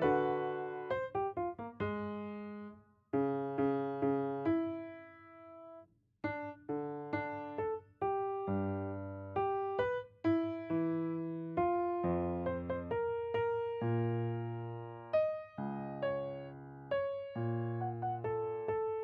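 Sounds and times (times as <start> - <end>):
solo piano notes and chords: 0.0 - 19.0.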